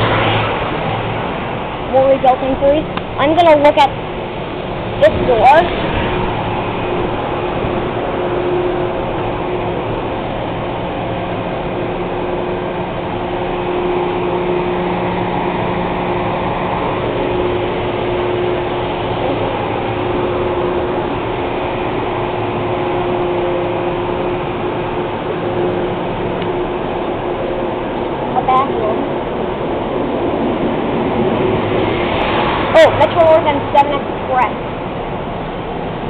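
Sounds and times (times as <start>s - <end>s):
electric train hum: 0.0s - 36.0s
steady electric tones: 0.0s - 36.0s.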